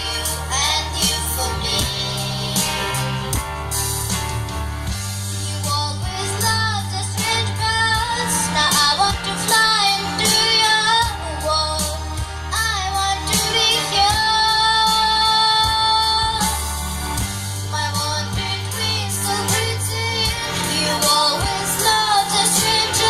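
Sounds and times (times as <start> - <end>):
girl singing: 0.0 - 2.6, 5.4 - 16.6, 17.7 - 23.0
backing track with bass line: 0.0 - 23.0.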